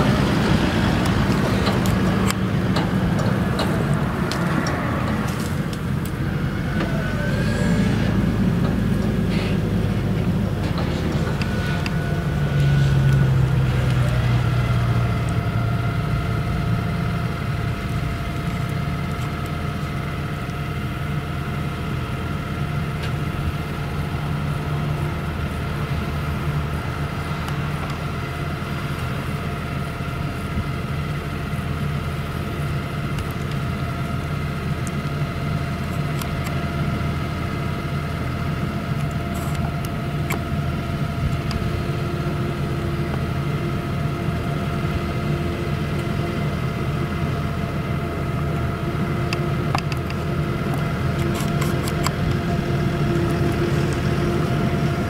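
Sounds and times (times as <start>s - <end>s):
forage harvester diesel engine: 0.0s - 55.0s
tractor engine: 0.0s - 55.0s
whining machine tones: 0.0s - 55.0s.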